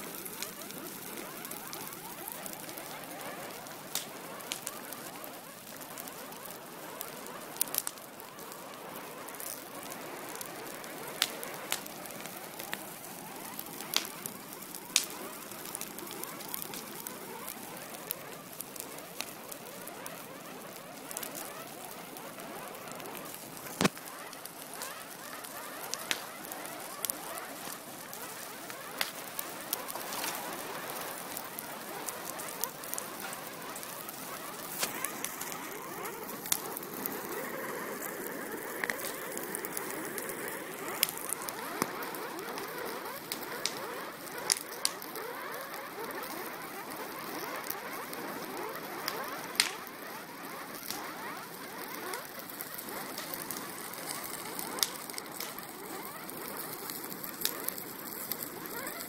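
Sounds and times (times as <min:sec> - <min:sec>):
fire hissing and crackling: 0:00.0 - 0:59.0
fire popping sharply: 0:00.0 - 0:59.0.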